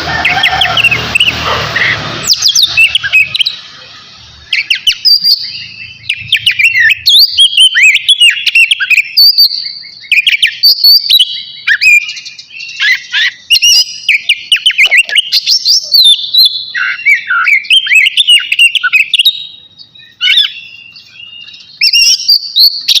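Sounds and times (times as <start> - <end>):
magpie-robin singing: 0.0 - 23.0.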